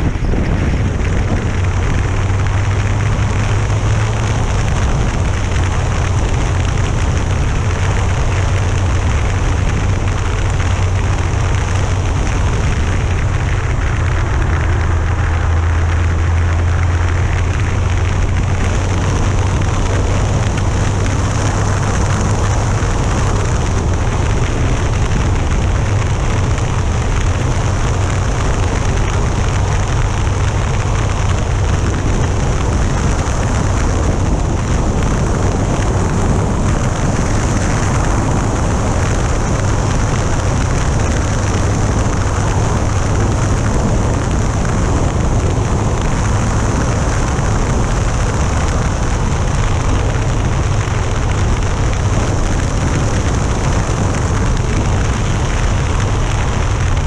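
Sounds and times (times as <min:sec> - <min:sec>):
wind rush on microphone: 0:00.0 - 0:57.0.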